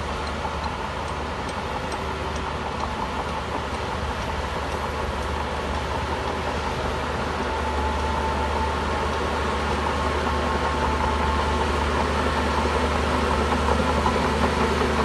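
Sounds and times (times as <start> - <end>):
bulldozer diesel engine rumble: 0.0 - 15.0.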